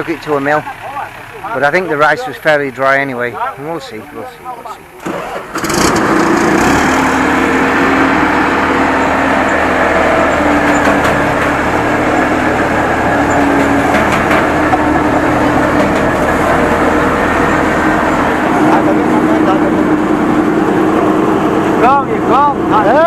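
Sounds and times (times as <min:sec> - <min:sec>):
large engine running: 0:00.0 - 0:23.0.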